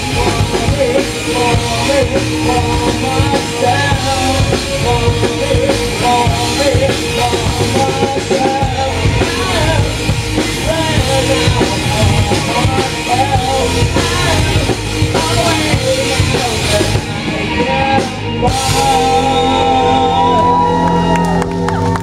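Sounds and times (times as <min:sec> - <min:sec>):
person singing: 0:00.0 - 0:21.6
live rock band playing: 0:00.0 - 0:22.0.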